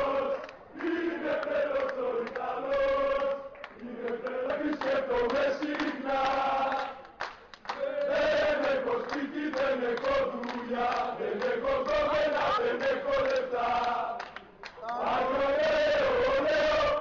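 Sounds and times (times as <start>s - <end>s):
crowd singing a chant: 0.0s - 17.0s.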